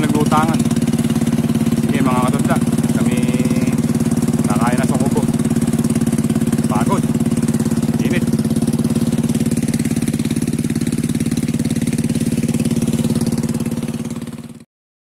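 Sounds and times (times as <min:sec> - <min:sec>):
boat engine running: 0:00.0 - 0:14.7.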